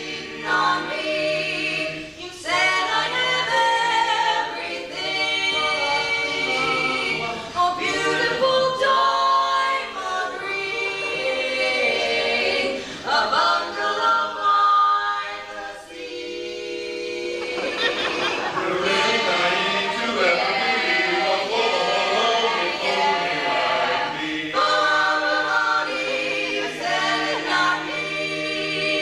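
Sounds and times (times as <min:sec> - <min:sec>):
a cappella harmony singing: 0:00.0 - 0:29.0.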